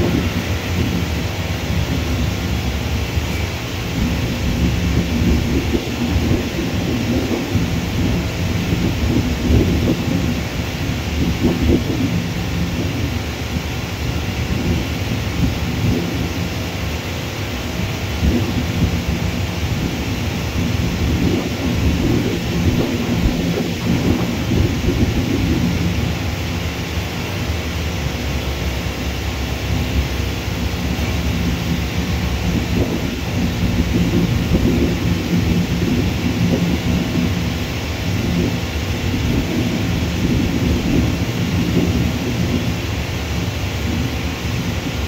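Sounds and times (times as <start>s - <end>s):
distant jet aircraft rumble: 0.0s - 45.0s
faint steady hum: 0.0s - 45.0s.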